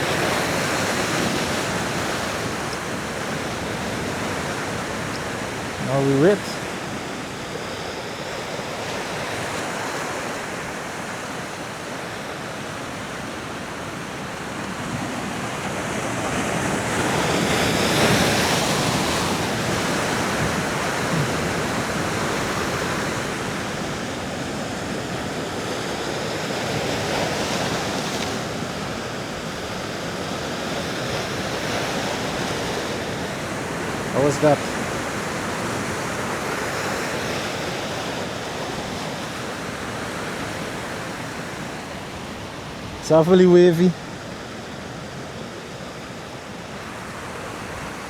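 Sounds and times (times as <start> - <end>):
ocean surf breaking on rocks: 0.0 - 48.0.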